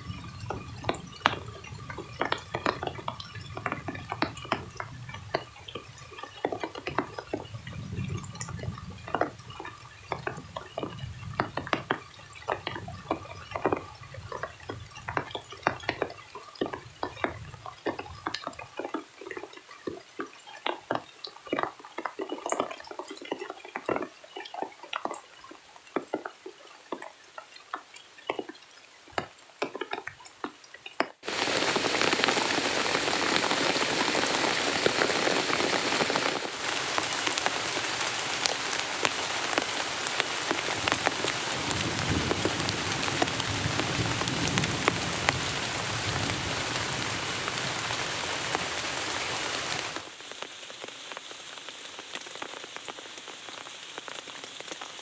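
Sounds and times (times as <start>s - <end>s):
rain dripping and pattering: 0.0s - 55.0s.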